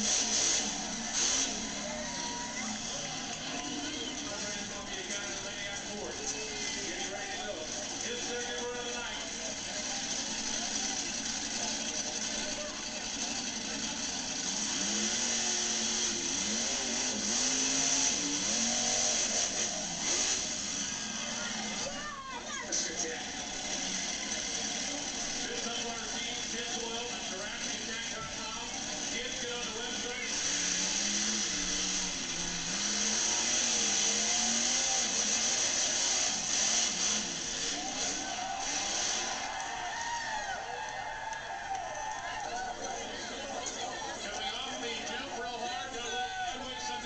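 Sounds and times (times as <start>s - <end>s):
monster truck engine revving: 0.0s - 47.0s.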